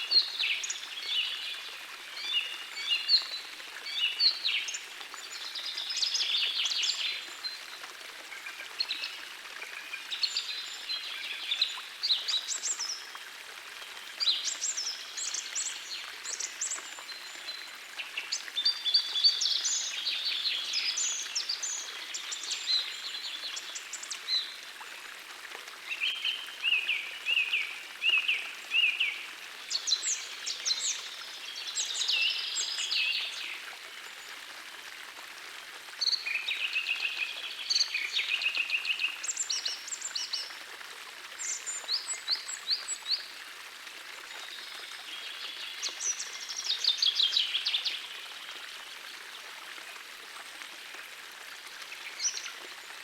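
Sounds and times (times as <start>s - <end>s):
forest stream rushing: 0.0s - 53.0s.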